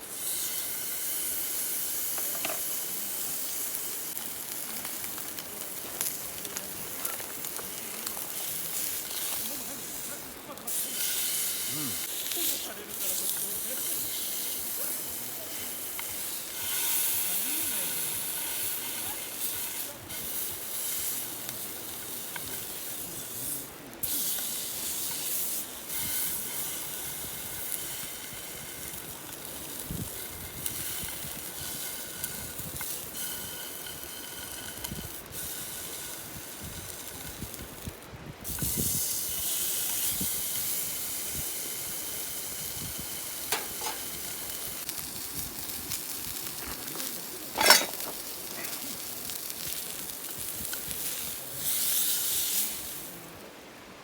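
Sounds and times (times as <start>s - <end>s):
steam hissing from a pot: 0.0s - 54.0s.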